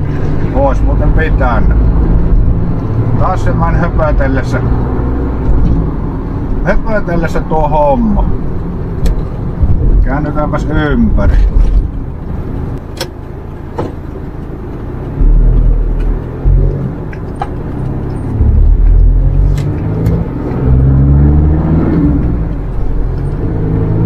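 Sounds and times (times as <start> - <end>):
minibus engine running: 0.0 - 24.0.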